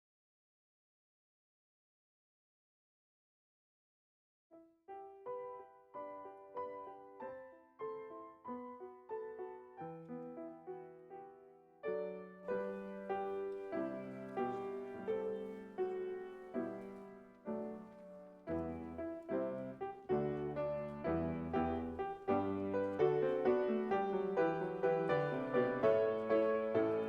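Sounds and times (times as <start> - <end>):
slow gentle piano piece: 4.8 - 27.0.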